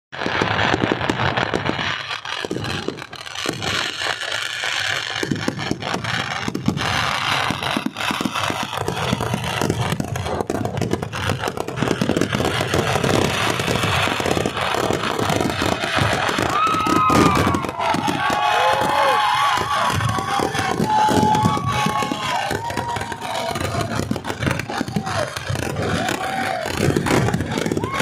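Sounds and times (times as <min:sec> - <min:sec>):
firecrackers crackling: 0:00.2 - 0:28.0.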